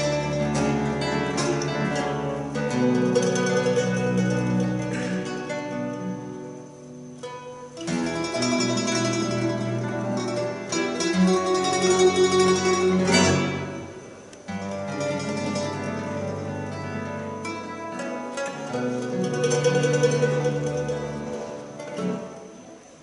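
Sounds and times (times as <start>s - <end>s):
double bass: 0.0s - 22.7s
acoustic guitar: 0.0s - 23.0s
mandolin: 0.0s - 23.0s.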